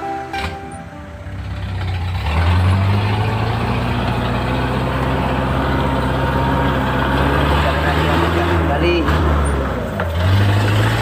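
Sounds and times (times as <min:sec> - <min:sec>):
truck engine droning under load: 0:00.0 - 0:11.0.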